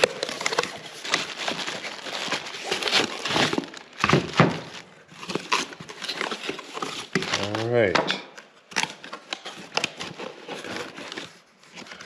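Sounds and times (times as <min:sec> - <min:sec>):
cardboard packaging rustling: 0:00.0 - 0:07.9, 0:08.5 - 0:12.0.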